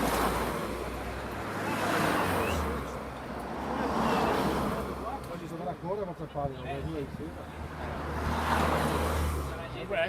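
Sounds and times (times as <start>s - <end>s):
passing vehicles road noise: 0.0s - 10.0s.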